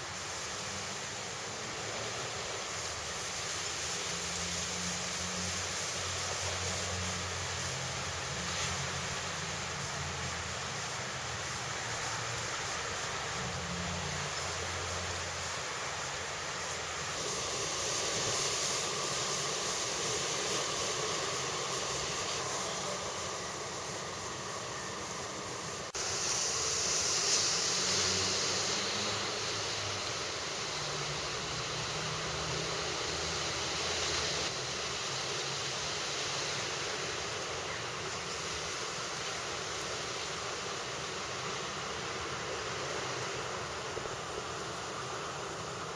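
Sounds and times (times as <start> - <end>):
rushing outdoor background noise: 0.0 - 45.9.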